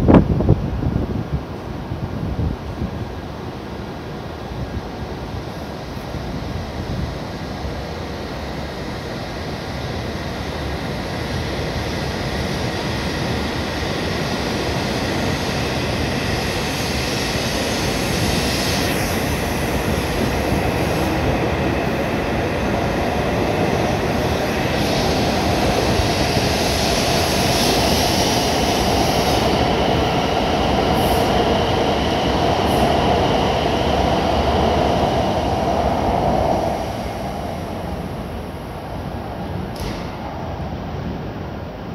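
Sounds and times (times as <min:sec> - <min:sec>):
train humming tone: 0:00.0 - 0:41.9
train motors and wheels running: 0:00.1 - 0:41.9.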